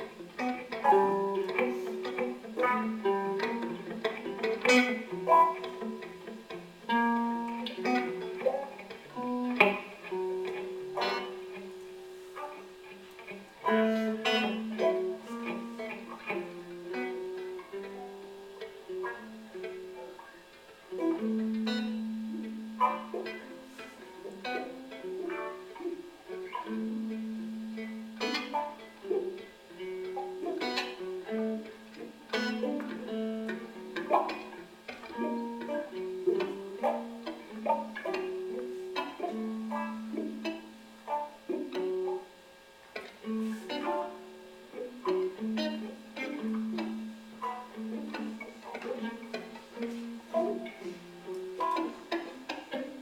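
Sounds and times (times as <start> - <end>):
electric guitars ringing notes: 0.0 - 53.0.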